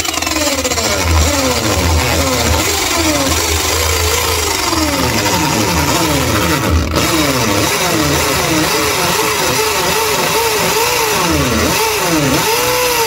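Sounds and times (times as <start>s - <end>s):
electric drill boring into wall: 0.0s - 13.0s.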